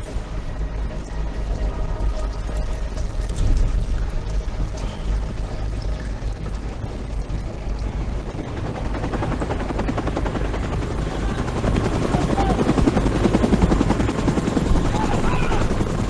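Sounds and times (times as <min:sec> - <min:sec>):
helicopter rotor chopping: 0:00.0 - 0:16.0
low rumbling drone: 0:00.0 - 0:16.0.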